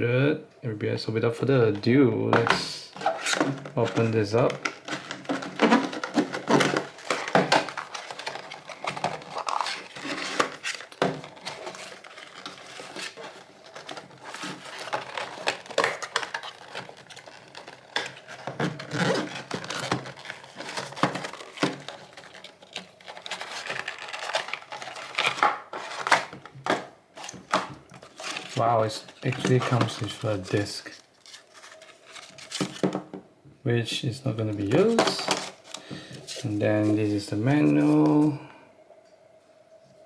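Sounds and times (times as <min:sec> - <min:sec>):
box packaging rustling and tearing: 0:01.7 - 0:33.1, 0:34.3 - 0:38.4.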